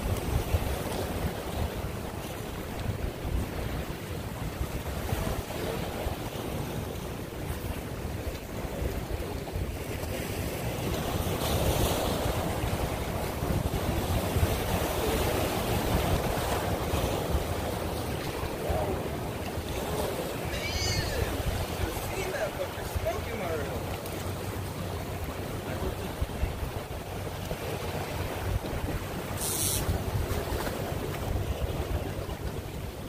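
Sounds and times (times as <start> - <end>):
small waves washing against rocks: 0.0 - 33.0
wind on microphone: 0.0 - 33.0.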